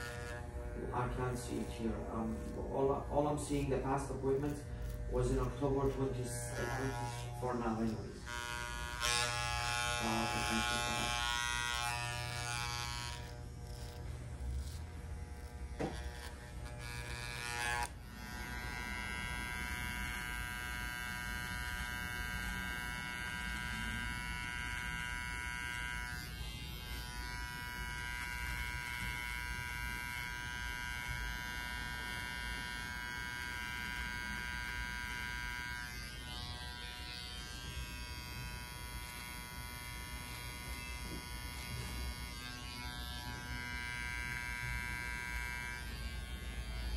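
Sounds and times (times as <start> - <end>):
electric beard trimmer buzzing: 0.0 - 46.9.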